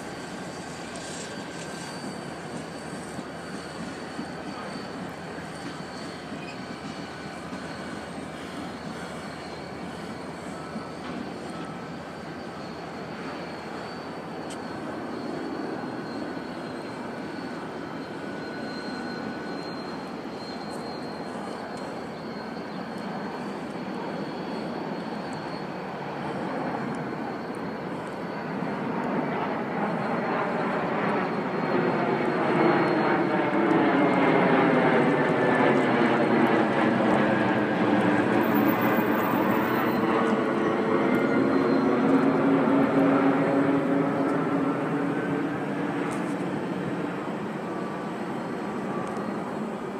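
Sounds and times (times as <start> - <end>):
aircraft engine rumble: 0.0 - 49.9.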